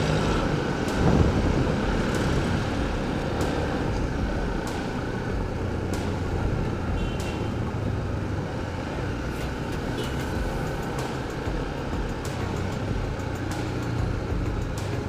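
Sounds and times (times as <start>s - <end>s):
motorcycle engine: 0.0s - 15.0s
road noise: 0.0s - 15.0s.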